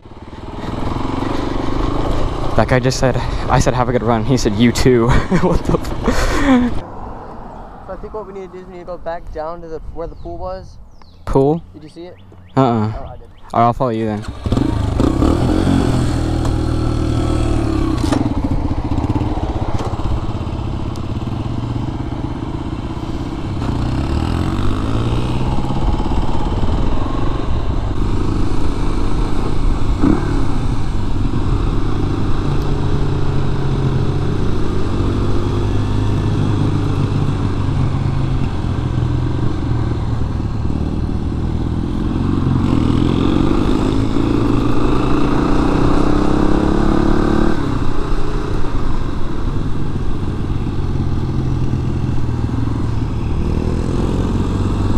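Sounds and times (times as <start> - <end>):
motorcycle engine accelerating: 0.0 - 10.2, 11.0 - 54.9.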